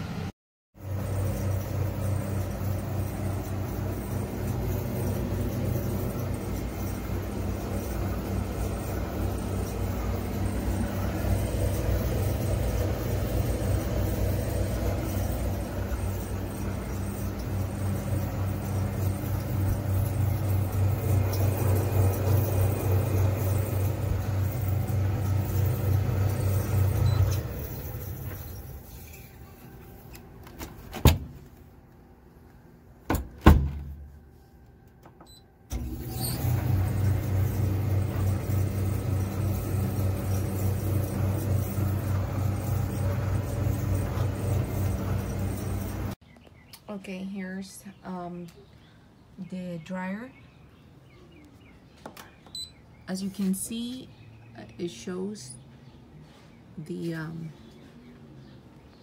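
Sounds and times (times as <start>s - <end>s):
low motor hum with rattle: 0.0s - 59.0s.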